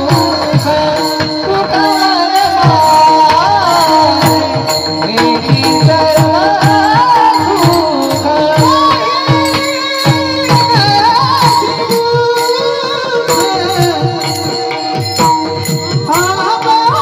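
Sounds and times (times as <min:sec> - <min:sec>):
jingles shimmering: 0:00.0 - 0:17.0
man singing ornamented melody: 0:00.0 - 0:17.0.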